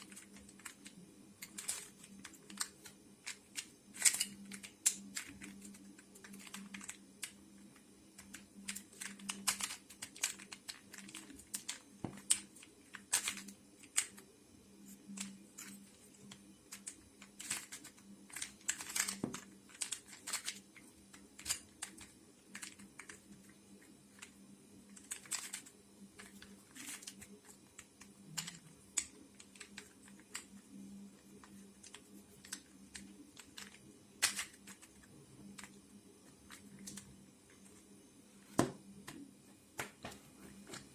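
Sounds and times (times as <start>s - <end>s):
puzzle cube plastic clicks: 0.0s - 37.8s.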